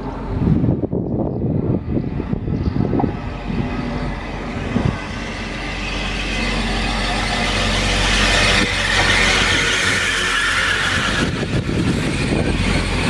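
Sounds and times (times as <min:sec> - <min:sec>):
train engine drone: 0:00.0 - 0:13.0
train rushing noise: 0:00.0 - 0:13.0
wind buffeting microphone: 0:00.0 - 0:13.0.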